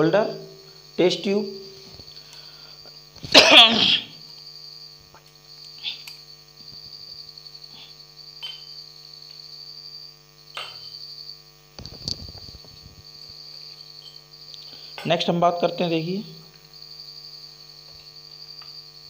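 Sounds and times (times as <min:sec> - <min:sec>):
electrical hum: 0:00.0 - 0:19.0
thin high whine: 0:00.0 - 0:19.0.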